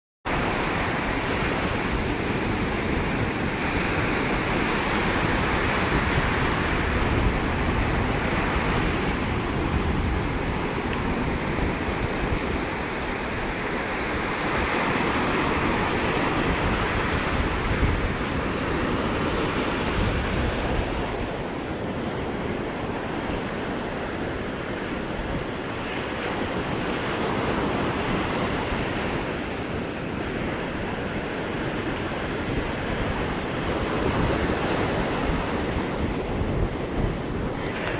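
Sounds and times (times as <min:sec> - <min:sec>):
waves washing up a beach: 0:00.3 - 0:37.9
wind buffeting microphone: 0:00.3 - 0:37.9.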